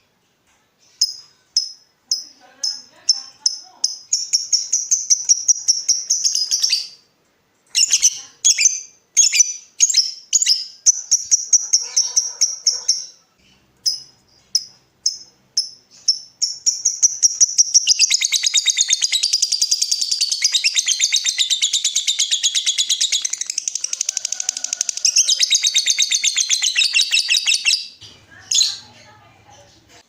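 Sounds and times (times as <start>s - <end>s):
lovebird chirping: 0.8s - 7.1s, 7.7s - 30.0s.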